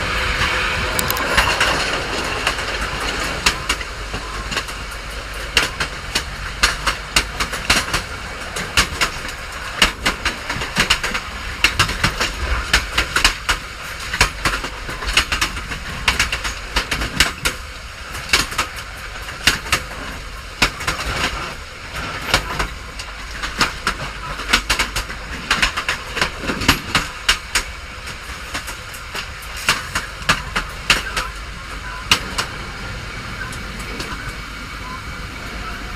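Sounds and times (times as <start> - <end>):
train rumbling along track: 0.0 - 35.9
wheels clacking on rails: 0.0 - 35.9.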